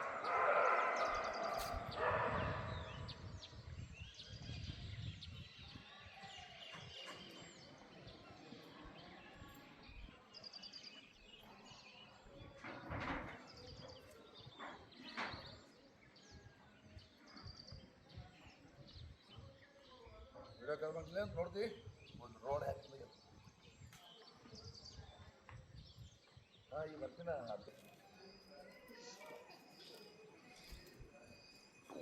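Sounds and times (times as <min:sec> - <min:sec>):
birds chirping: 0:00.0 - 0:32.0
outdoor background noise: 0:00.0 - 0:32.0.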